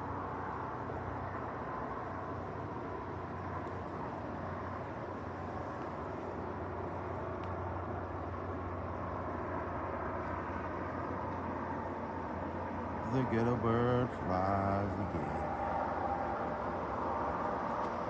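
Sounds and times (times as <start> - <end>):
helicopter rotor drone: 0.0 - 18.0.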